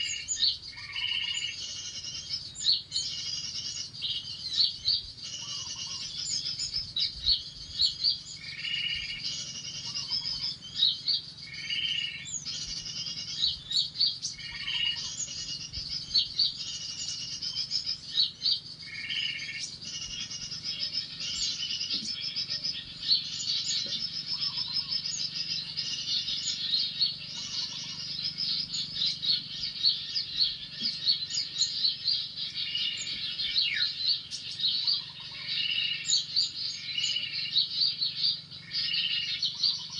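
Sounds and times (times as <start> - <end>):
lower bird call: 0.0 - 39.9
small birds chirping: 0.0 - 39.9.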